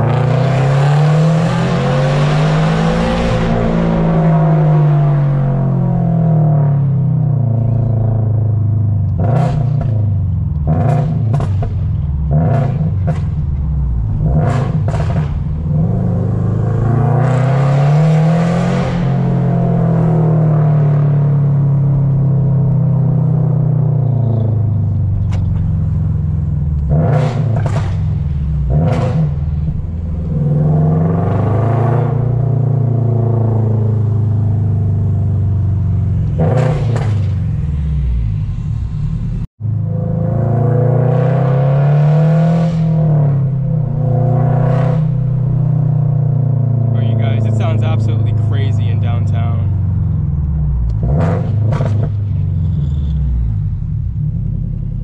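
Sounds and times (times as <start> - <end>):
car engine revving while driving: 0.0 - 55.0.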